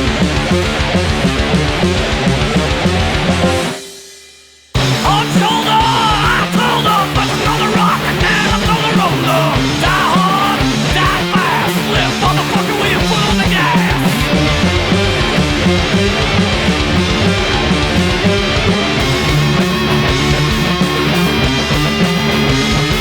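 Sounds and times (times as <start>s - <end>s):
high lead guitar bending: 0.0s - 4.2s, 4.8s - 23.0s
rock band playing loud riff: 0.0s - 23.0s.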